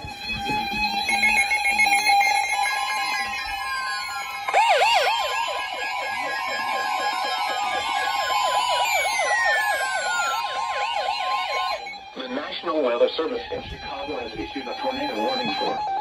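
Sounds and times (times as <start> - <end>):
fast warbling siren alert: 0.1 - 16.0
steady warning alarm tone: 0.4 - 16.0.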